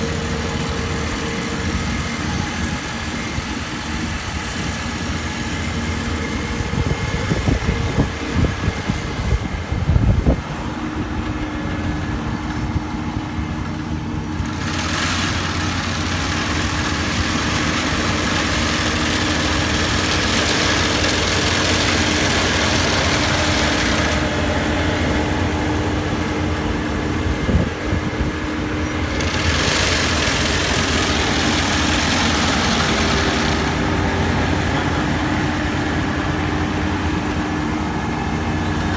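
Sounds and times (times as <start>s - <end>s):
harvester engine running: 0.0s - 38.9s.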